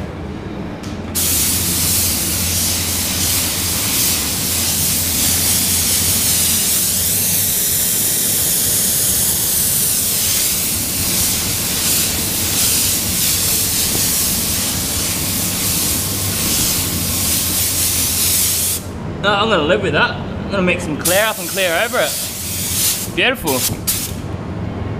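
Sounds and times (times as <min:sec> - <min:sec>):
steady low hum: 0:00.0 - 0:24.9
spray gun hissing: 0:01.2 - 0:18.8, 0:21.0 - 0:24.2.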